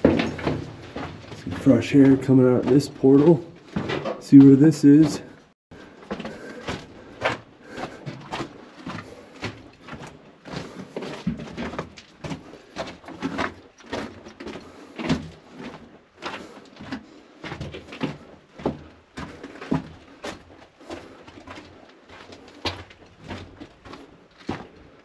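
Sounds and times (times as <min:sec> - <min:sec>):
footsteps on loose gravel: 0:00.0 - 0:25.0.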